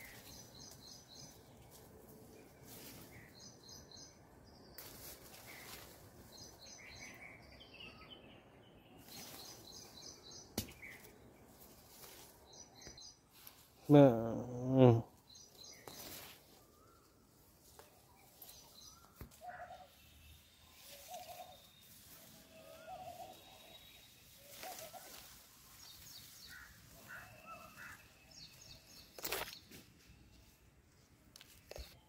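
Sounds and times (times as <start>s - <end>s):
birds calling: 2.4s - 30.2s.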